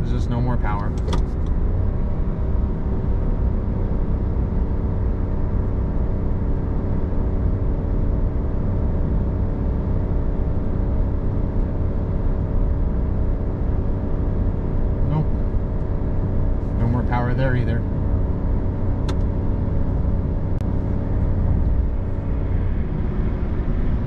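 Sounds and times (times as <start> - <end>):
diesel engine drone under load: 0.0 - 24.0
road rumble: 0.0 - 24.0.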